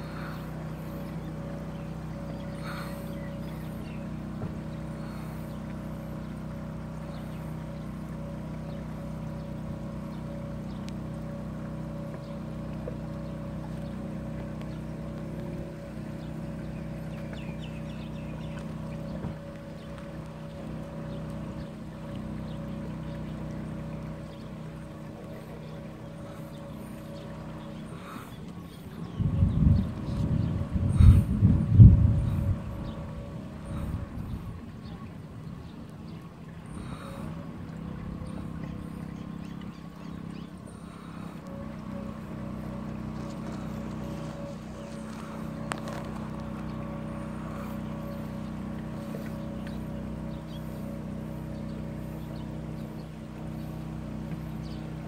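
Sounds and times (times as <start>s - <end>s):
motor humming: 0.0s - 55.0s.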